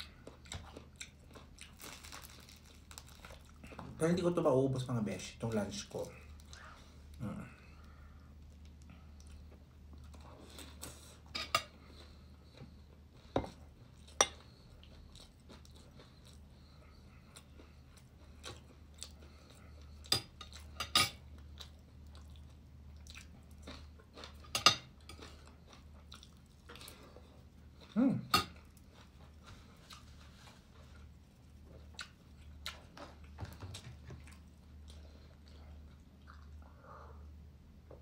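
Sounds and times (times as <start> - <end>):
quiet chewing: 0.0 - 4.0, 6.0 - 38.0.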